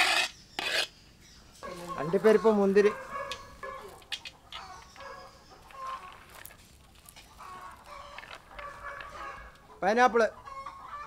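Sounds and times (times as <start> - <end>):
hens clucking: 1.6 - 11.0.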